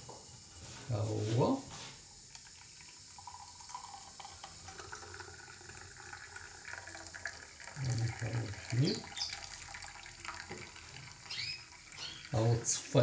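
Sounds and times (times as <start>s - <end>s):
hot milk pouring into a glass: 2.0s - 13.0s.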